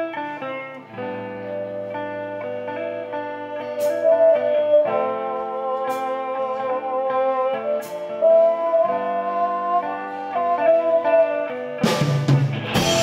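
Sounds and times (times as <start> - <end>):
drums: 0.0 - 13.0
electric guitars holding long notes: 0.0 - 13.0.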